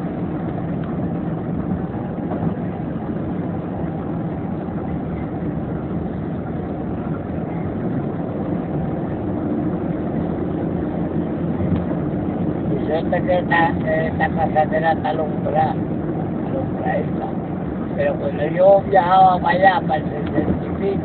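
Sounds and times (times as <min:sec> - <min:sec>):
car cabin road and engine noise: 0:00.0 - 0:21.0.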